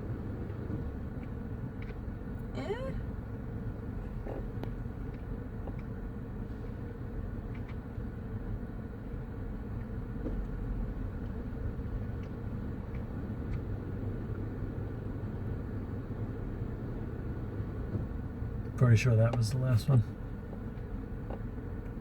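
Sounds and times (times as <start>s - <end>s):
low rumble of vehicle traffic: 0.0s - 22.0s.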